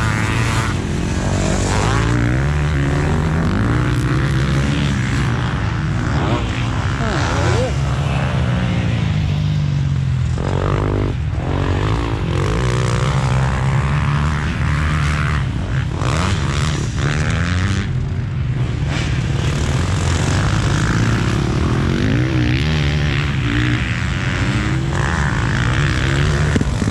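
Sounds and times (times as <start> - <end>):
motorbike engine revving: 0.0 - 9.6, 10.2 - 26.9.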